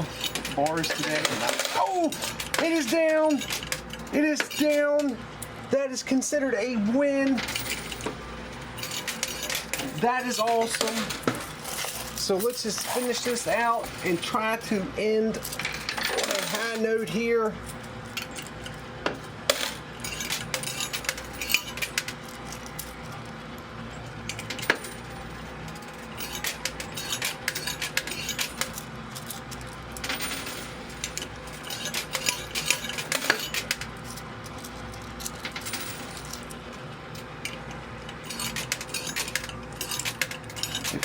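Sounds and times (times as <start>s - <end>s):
coins clinking in coin pusher: 0.0s - 23.3s, 23.9s - 41.0s
steady hum: 0.0s - 41.0s.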